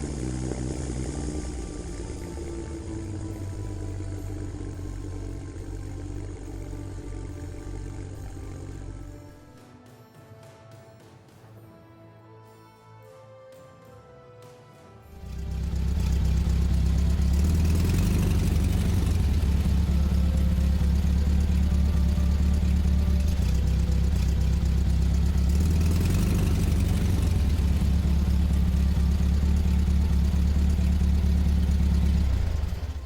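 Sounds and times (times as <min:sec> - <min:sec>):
large vehicle engine running: 0:00.0 - 0:09.6, 0:15.1 - 0:33.0.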